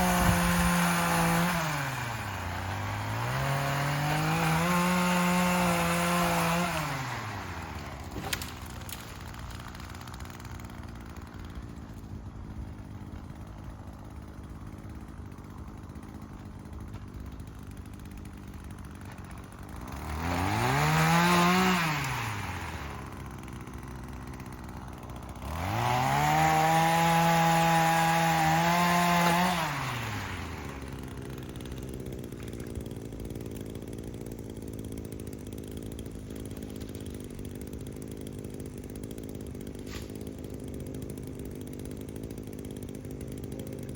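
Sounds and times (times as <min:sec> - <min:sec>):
two-stroke saw engine revving: 0:00.0 - 0:43.9.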